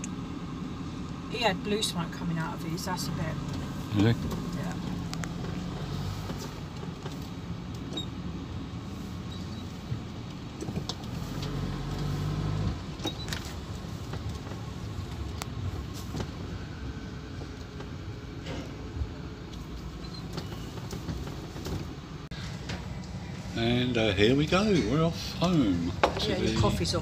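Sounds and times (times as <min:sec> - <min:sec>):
van engine running: 0:00.0 - 0:27.0.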